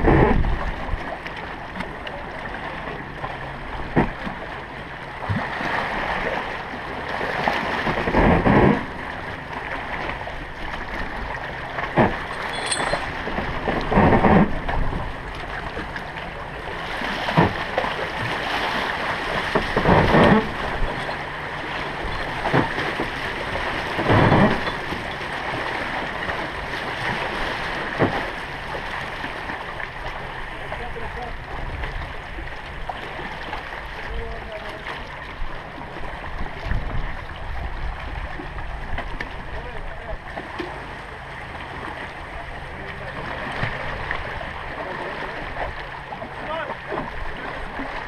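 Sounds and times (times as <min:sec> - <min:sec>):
small waves washing onto rocks: 0:05.2 - 0:48.0.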